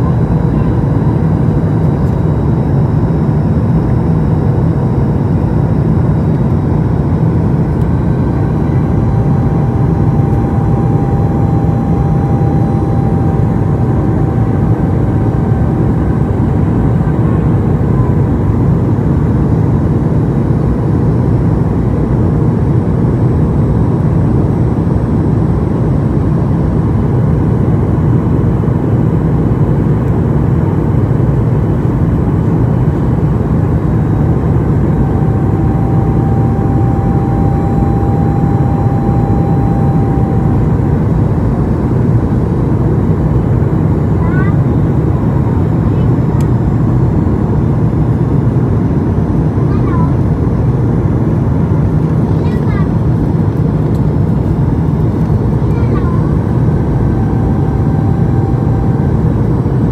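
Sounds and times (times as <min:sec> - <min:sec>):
airflow and engine rush: 0:00.0 - 0:59.9
faint whine: 0:00.0 - 0:59.9.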